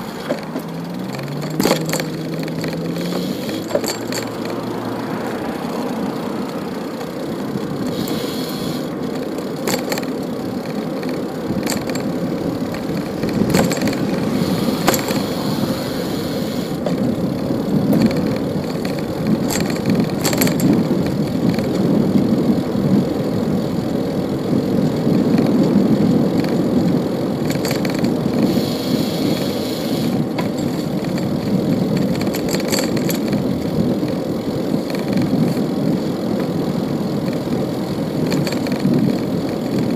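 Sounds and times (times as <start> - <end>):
bicycle tyres rumbling: 0.0 - 39.9
bike rattles and clicks: 0.0 - 39.9.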